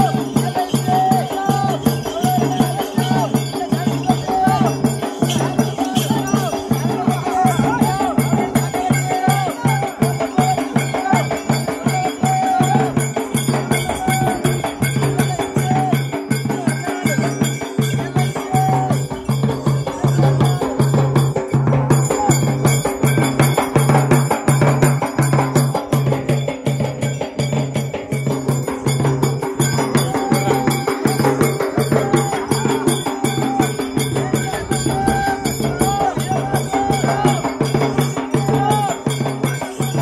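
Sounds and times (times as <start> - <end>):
drums beating steady rhythm: 0.0 - 40.0
high melodic line: 0.0 - 40.0
light percussion: 0.0 - 40.0.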